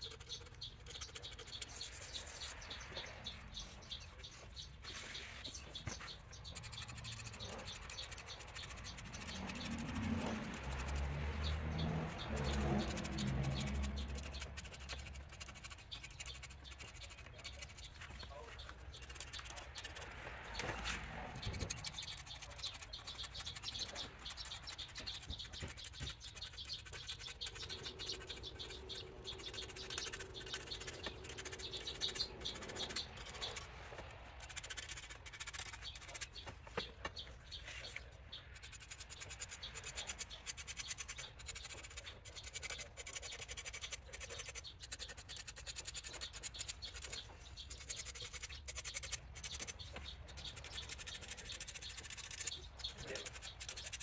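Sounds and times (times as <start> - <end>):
tool tip scratching on shaft: 0.0 - 54.0
small ticks: 5.8 - 37.2, 37.9 - 54.0.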